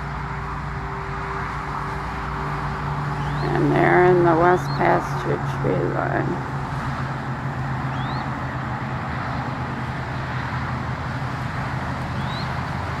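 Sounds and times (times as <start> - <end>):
vehicle motor humming: 0.0 - 13.0.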